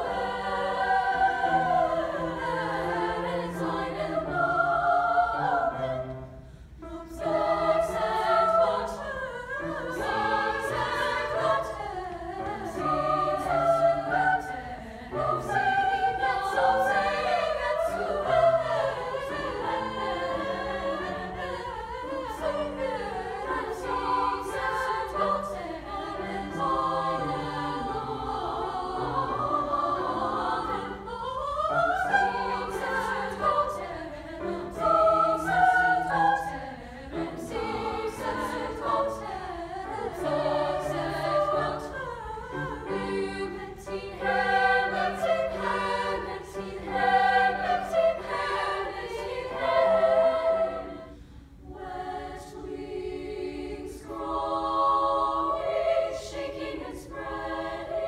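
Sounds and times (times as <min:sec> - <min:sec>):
grand piano accompaniment: 0:00.0 - 0:52.7
women's choir singing: 0:00.0 - 0:58.0.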